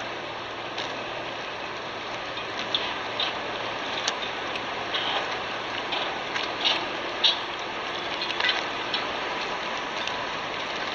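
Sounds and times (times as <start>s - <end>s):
paddle splashing water: 0.0s - 10.9s
rushing water: 0.0s - 10.9s.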